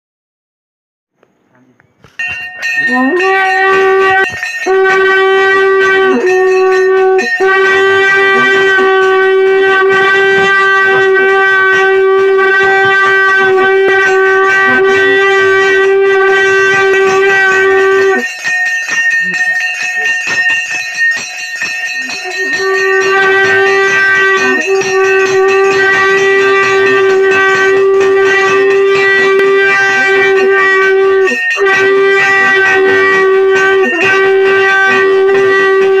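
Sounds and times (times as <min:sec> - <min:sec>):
knocks and clatter: 0:02.0 - 0:05.3, 0:06.3 - 0:36.0
long horn held note: 0:02.7 - 0:18.3, 0:22.1 - 0:36.0.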